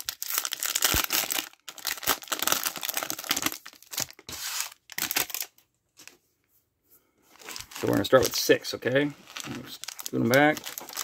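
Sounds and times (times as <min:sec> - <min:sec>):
plastic wrapper crinkling: 0:00.0 - 0:06.1, 0:07.4 - 0:11.0.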